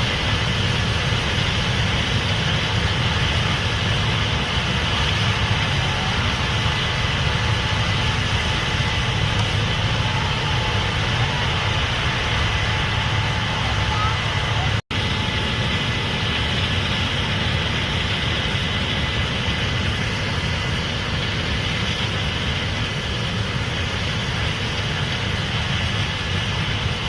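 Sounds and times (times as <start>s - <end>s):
combine harvester droning: 0.0s - 27.0s.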